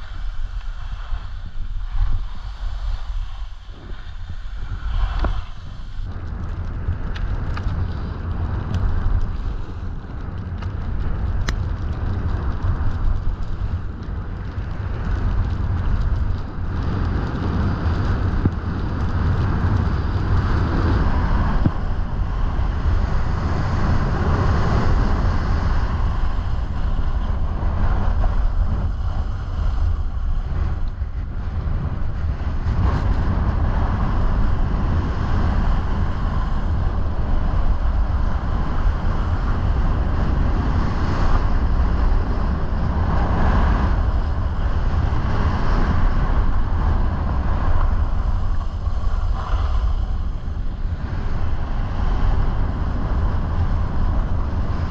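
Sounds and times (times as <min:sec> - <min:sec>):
skis sliding over snow: 0:00.0 - 0:30.8, 0:31.6 - 0:54.9
wind on microphone: 0:00.0 - 0:54.9.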